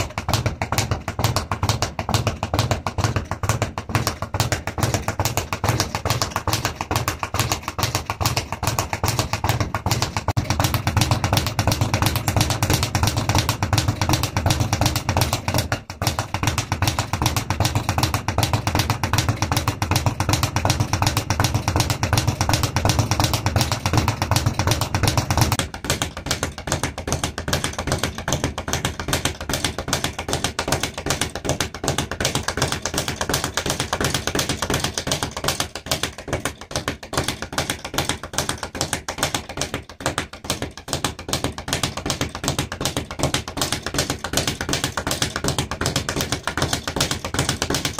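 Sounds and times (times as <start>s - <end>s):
speed bag rattling: 0.0s - 47.9s.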